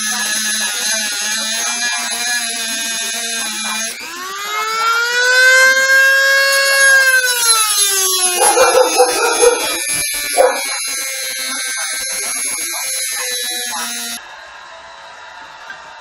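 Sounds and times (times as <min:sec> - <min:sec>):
rotary tool cutting metal: 0:00.0 - 0:14.2.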